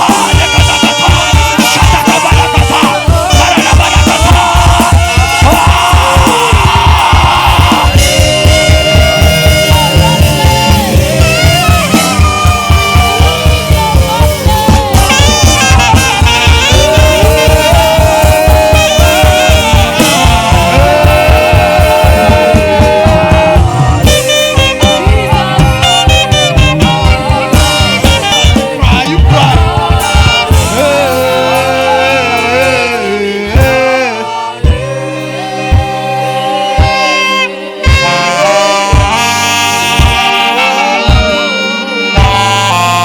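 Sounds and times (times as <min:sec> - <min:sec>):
fast drum beat: 0:00.0 - 0:35.1, 0:37.8 - 0:41.5
live band: 0:00.0 - 0:43.0
saxophone melody: 0:00.0 - 0:43.0.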